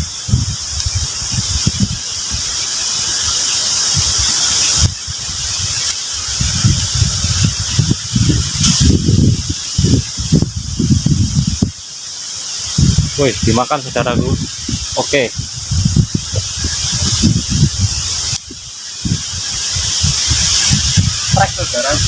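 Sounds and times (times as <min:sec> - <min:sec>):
high-pitched hiss: 0:00.0 - 0:22.0
wind buffeting microphone: 0:00.0 - 0:22.0.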